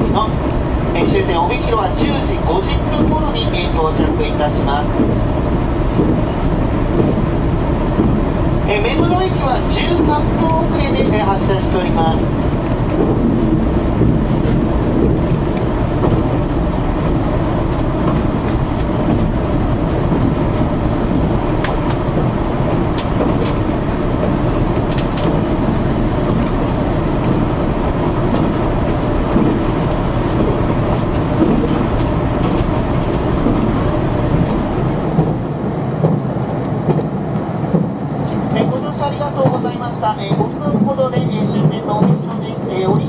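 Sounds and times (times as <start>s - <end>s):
diesel railcar rumble: 0.0s - 43.0s.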